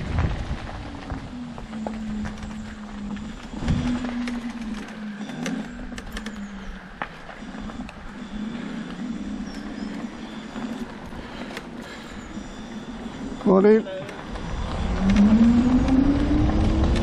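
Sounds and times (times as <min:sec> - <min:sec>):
electric motor hum: 0:00.0 - 0:17.0
wheels ticking and knocking: 0:00.0 - 0:17.0.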